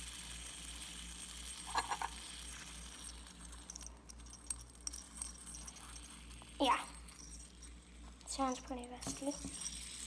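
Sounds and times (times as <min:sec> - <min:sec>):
metal fidget spinner spinning: 0:00.0 - 0:10.0.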